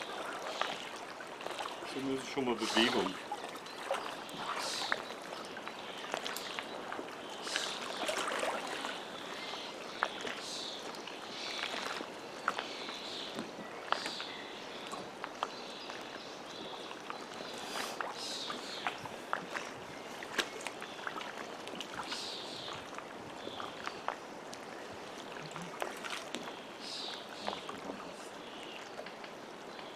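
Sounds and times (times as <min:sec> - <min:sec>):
water splashing around waders: 0:00.0 - 0:29.9.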